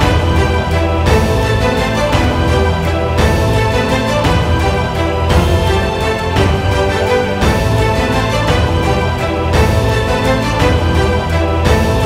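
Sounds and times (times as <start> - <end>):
held orchestral notes: 0.0 - 12.0
percussion hits: 0.0 - 12.0.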